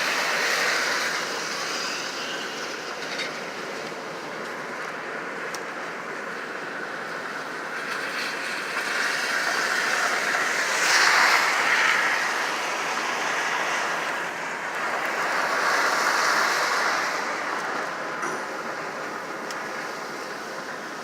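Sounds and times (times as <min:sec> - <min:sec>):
car road and wind noise: 0:00.0 - 0:21.0.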